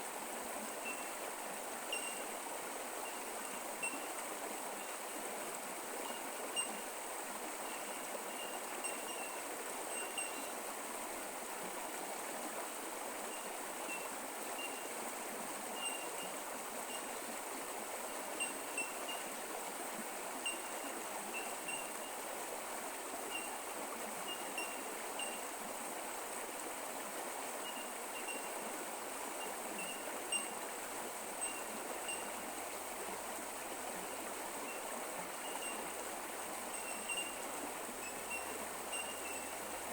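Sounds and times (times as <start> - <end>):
creek flowing: 0.0 - 39.9
trickling water plinks: 0.7 - 10.7, 13.3 - 19.8, 20.4 - 22.2, 23.1 - 25.6, 27.6 - 33.1, 34.0 - 39.9.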